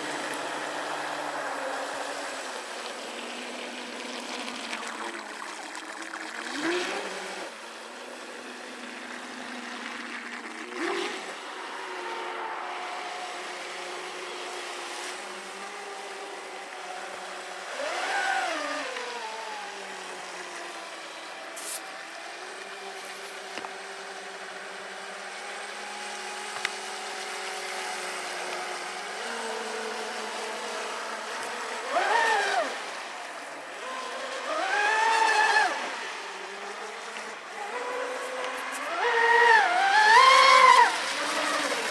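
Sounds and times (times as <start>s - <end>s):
model speedboat motor running: 0.0s - 41.9s.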